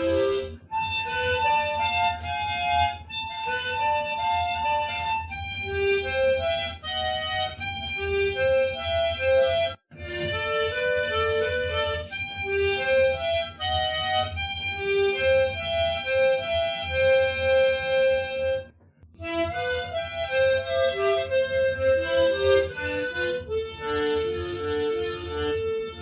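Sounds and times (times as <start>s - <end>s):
harmonica slow melody: 0.0s - 26.0s.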